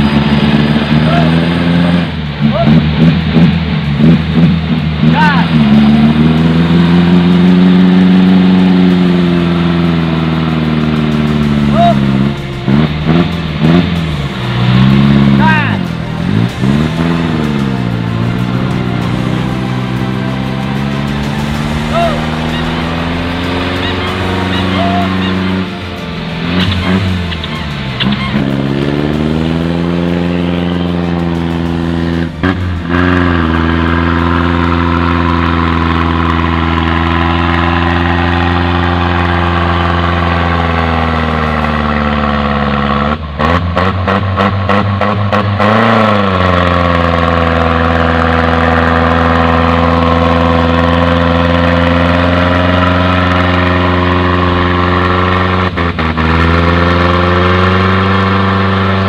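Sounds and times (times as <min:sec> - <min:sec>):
off-road vehicle engine under load: 0:00.0 - 0:59.0.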